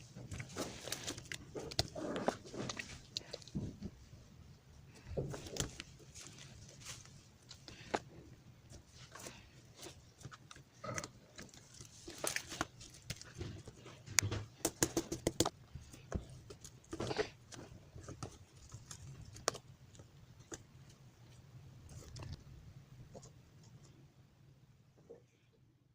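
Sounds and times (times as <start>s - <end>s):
slime squishing by hand: 0.0s - 23.9s.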